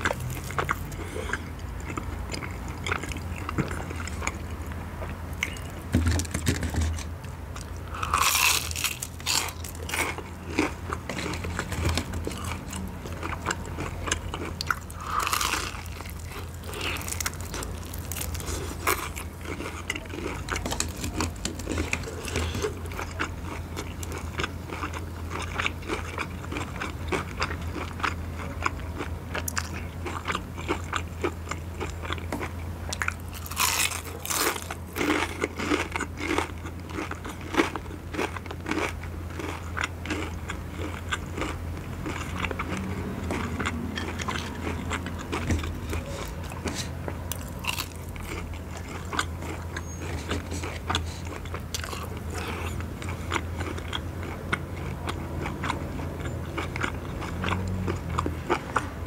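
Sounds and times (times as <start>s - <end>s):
crunching crispy fried chicken: 0.0s - 59.0s.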